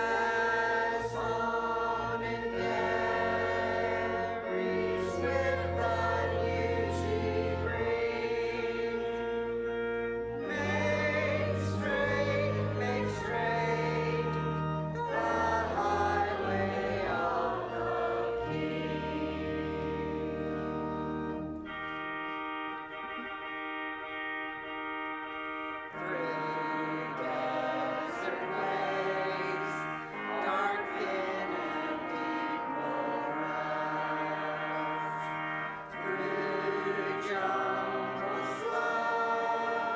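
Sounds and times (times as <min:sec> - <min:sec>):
congregation singing a hymn: 0:00.0 - 0:39.9
organ chords: 0:00.0 - 0:39.9.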